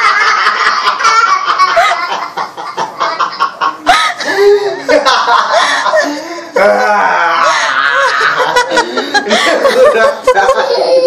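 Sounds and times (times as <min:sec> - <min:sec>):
child laughing: 0:00.0 - 0:06.2, 0:07.4 - 0:11.0
man laughing: 0:01.6 - 0:11.0.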